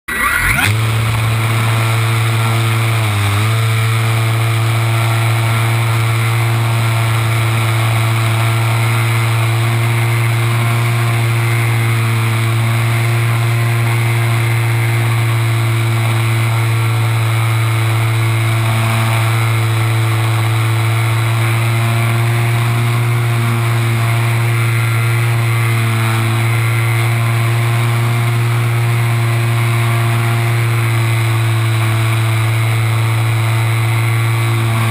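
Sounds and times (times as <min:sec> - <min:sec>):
model plane motor and propeller: 0:00.1 - 0:34.9.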